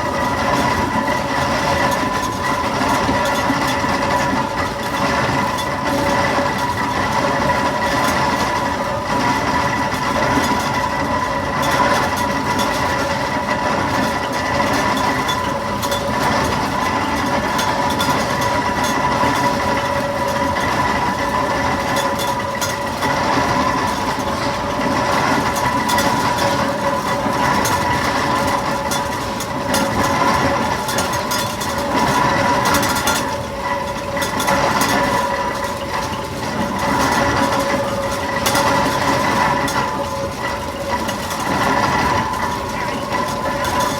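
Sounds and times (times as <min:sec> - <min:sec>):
steam engine running with whine: 0:00.0 - 0:43.9.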